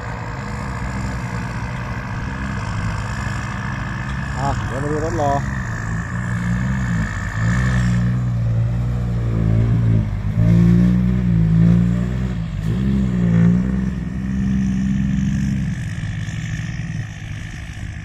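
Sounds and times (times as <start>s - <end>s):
tractor diesel engine working: 0.0s - 18.0s.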